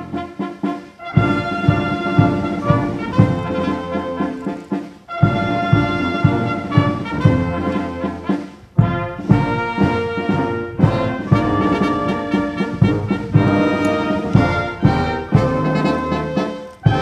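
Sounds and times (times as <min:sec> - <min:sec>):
brass band playing solemn music: 0:00.0 - 0:17.0.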